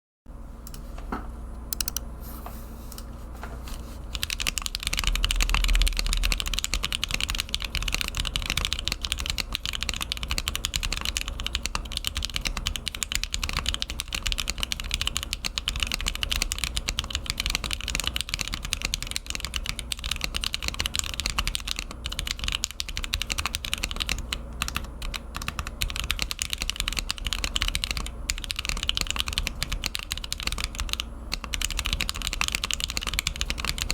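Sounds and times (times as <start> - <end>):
mechanical keyboard typing: 4.1 - 33.9.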